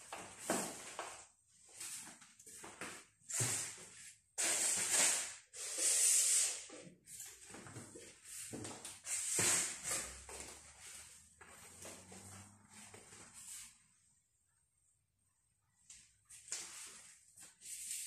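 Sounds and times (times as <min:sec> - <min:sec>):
mop swishing on tile floor: 0:00.0 - 0:14.1, 0:15.9 - 0:18.0.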